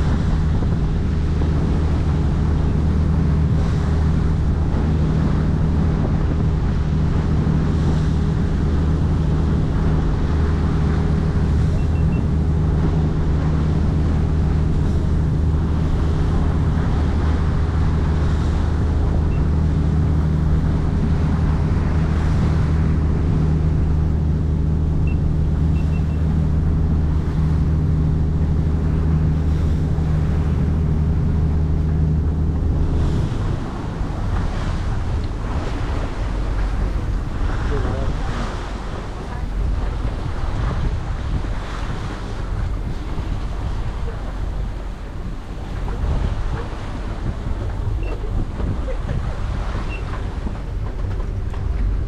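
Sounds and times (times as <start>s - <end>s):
boat engine humming: 0.0s - 52.0s
water rushing along hull: 0.0s - 52.0s
wind on microphone: 0.0s - 52.0s.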